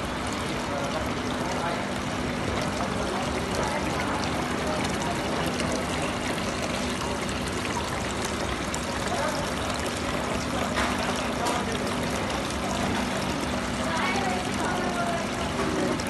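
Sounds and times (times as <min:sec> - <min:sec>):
fountain water splashing into pool: 0:00.0 - 0:16.0.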